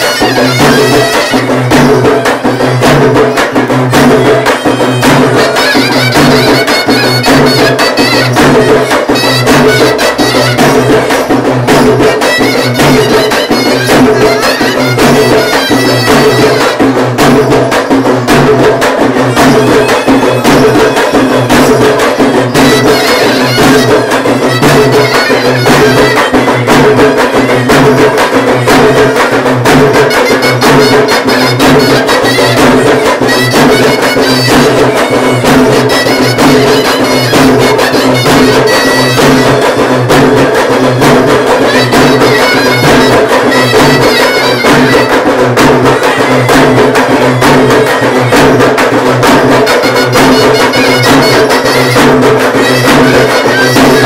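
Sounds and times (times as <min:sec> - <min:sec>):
reed wind instrument melody: 0:00.0 - 0:02.8, 0:04.5 - 0:17.1, 0:19.3 - 0:40.1, 0:41.3 - 0:54.0
fast steady drumming: 0:00.0 - 0:54.0.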